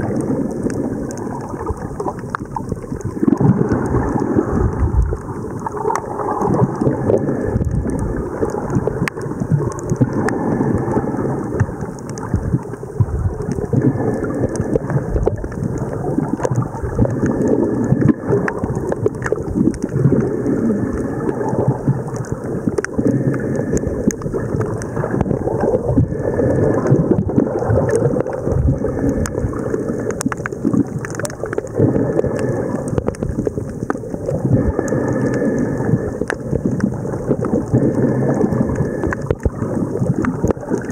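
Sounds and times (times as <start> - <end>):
faint clicks: 0.0 - 40.9
muffled underwater rumble: 0.0 - 40.9.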